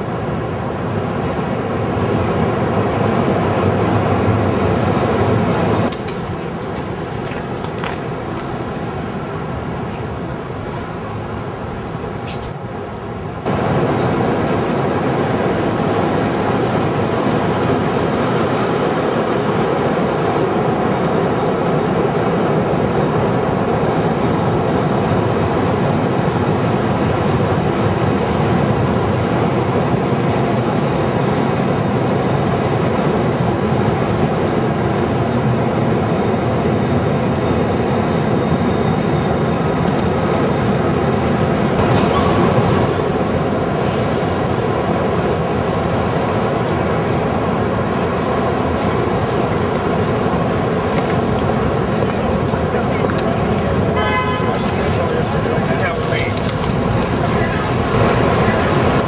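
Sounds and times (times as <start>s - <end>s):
loud city rumble: 0.0s - 59.0s.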